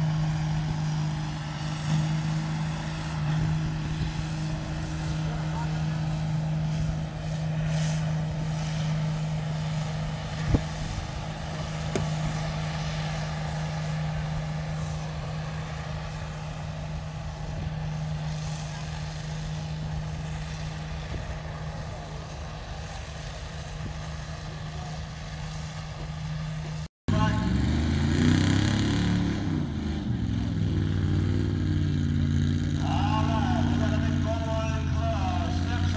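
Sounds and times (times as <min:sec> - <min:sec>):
vehicle engine running steadily: 0:00.0 - 0:35.9.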